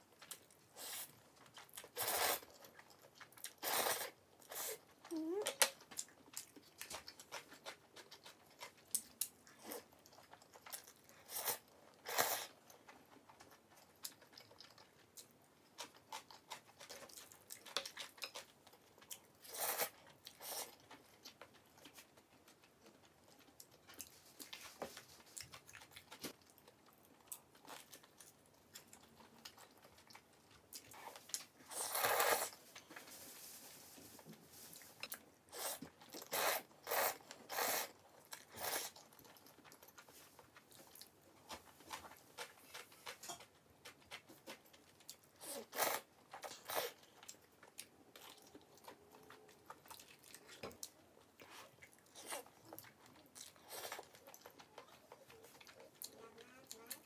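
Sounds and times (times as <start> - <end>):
chewing and biting food: 0.1 - 33.0, 34.2 - 57.0.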